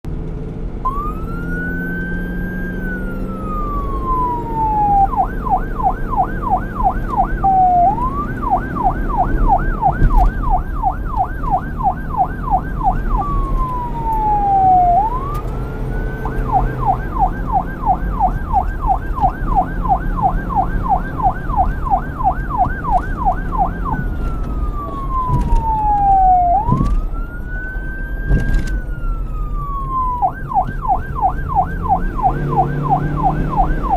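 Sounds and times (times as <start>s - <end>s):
police siren wailing and yelping: 0.8s - 33.9s.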